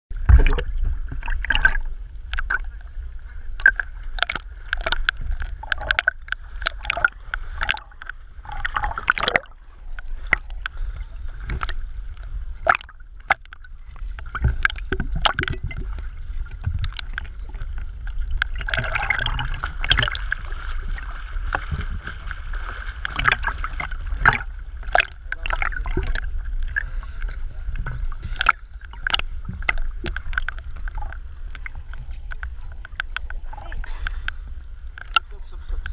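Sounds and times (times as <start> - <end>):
low steady rumble: 0.1 - 35.9
sea water lapping and splashing: 0.1 - 35.9.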